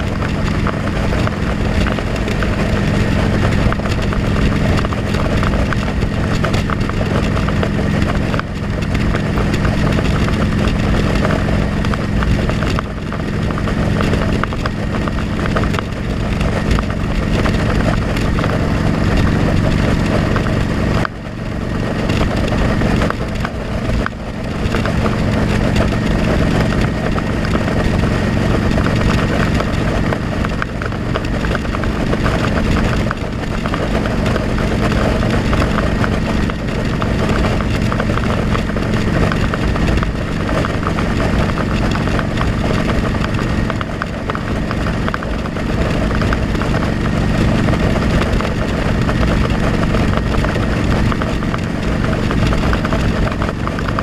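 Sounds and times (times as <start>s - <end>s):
motorcycle engine running: 0.0s - 54.0s
wind rumble: 0.0s - 54.0s.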